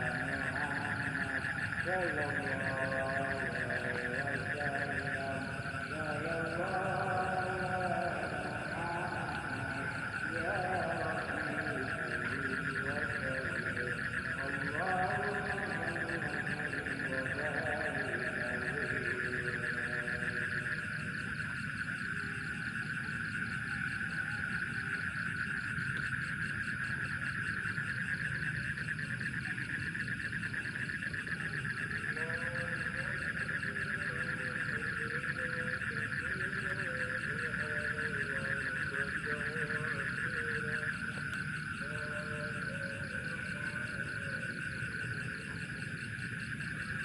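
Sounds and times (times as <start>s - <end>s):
faint low wavering calls: 0.0s - 47.0s
night insects trilling: 0.0s - 47.0s.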